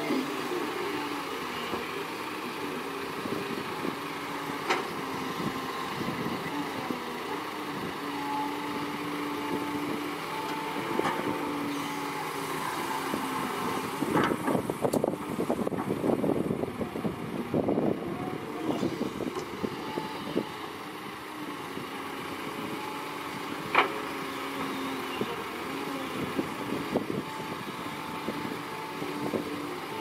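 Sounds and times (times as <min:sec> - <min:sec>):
excavator engine and hydraulics: 0:00.0 - 0:30.0
hydraulic whine: 0:03.3 - 0:20.8, 0:22.5 - 0:30.0.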